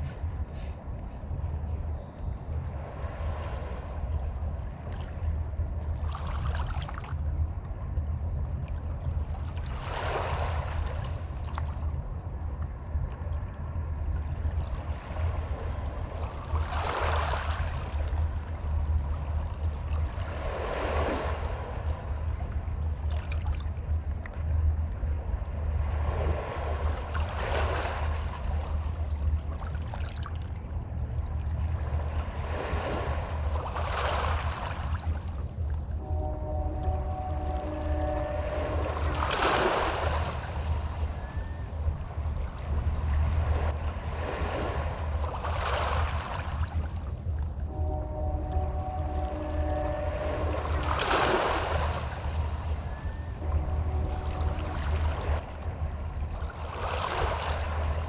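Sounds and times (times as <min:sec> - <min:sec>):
steady low rumble: 0:00.0 - 0:58.0
small waves washing onto shore: 0:02.7 - 0:58.0.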